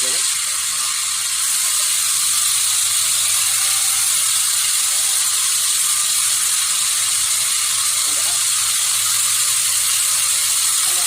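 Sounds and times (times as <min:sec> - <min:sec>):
sawmill machinery hissing: 0:00.0 - 0:11.0.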